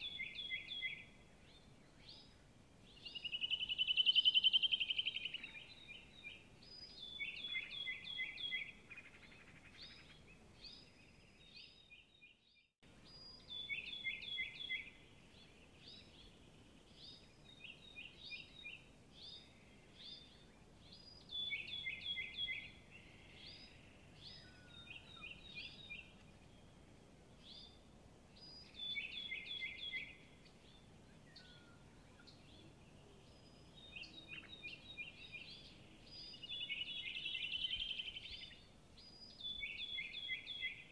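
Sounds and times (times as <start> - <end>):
low background hiss: 0.0 - 40.9
small songbirds chirping: 0.0 - 40.9.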